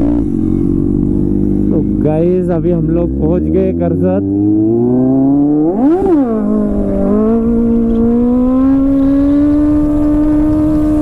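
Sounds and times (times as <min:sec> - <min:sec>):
motorcycle engine revving: 0:00.0 - 0:11.0
wind rumble on microphone: 0:00.0 - 0:11.0.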